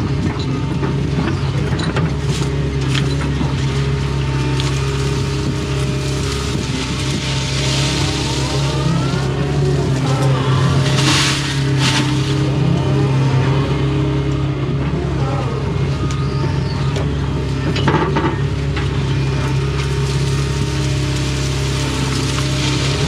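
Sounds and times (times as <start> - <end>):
excavator diesel engine: 0.0 - 23.0
hydraulic tones: 0.0 - 23.0.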